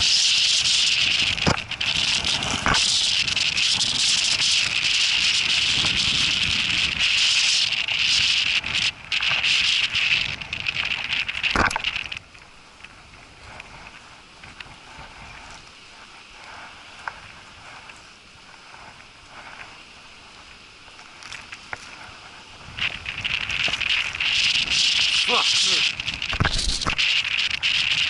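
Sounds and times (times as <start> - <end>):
wind and rain on microphone: 0.0 - 28.0.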